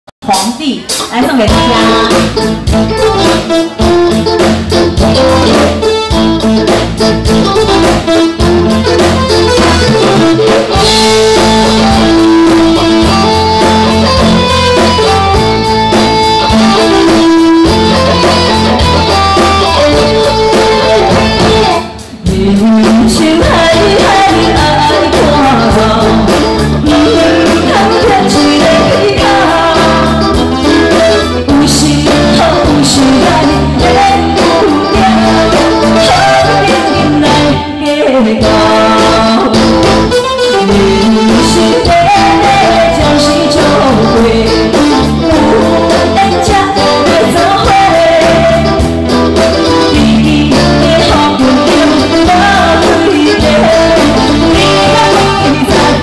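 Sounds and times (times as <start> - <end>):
live band playing: 0.2 - 56.0
person singing: 0.3 - 56.0.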